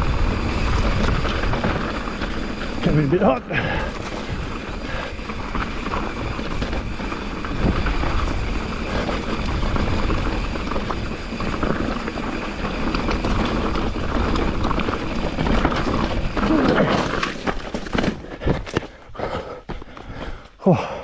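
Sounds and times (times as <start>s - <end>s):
bike rattling: 0.0s - 20.5s
bike tyres crunching over stones: 0.0s - 20.6s.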